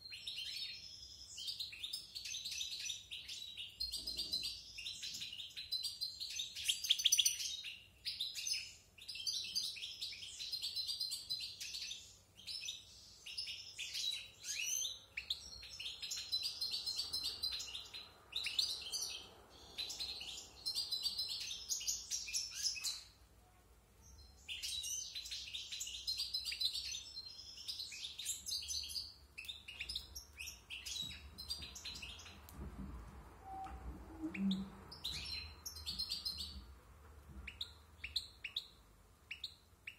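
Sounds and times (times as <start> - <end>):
bird twittering song: 0.0 - 23.2, 24.0 - 32.6, 33.4 - 36.7, 37.4 - 39.9.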